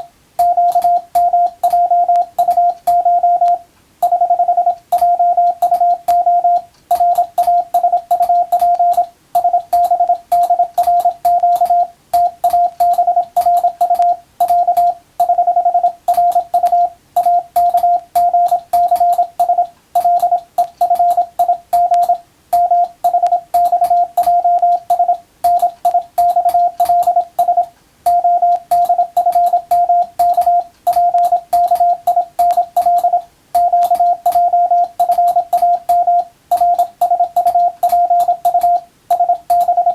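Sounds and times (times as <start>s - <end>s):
faint keying clicks: 0.0s - 39.9s
morse code tone: 0.0s - 39.9s.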